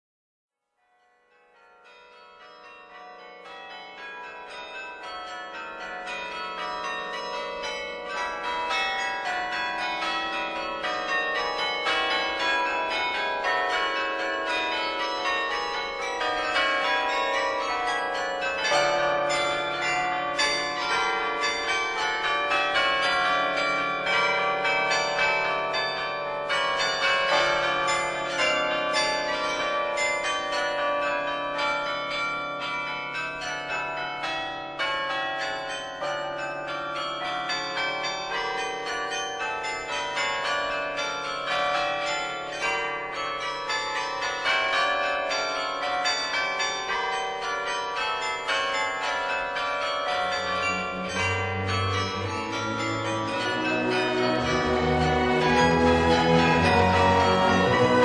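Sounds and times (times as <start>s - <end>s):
bells ringing in a peal: 0.8s - 58.0s.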